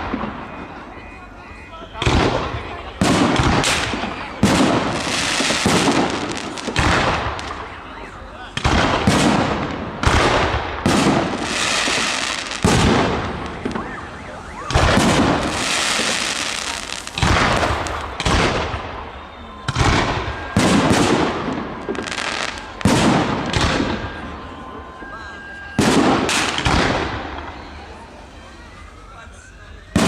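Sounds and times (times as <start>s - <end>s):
fireworks banging: 0.0s - 28.9s
crackling hiss of fireworks: 0.0s - 30.0s.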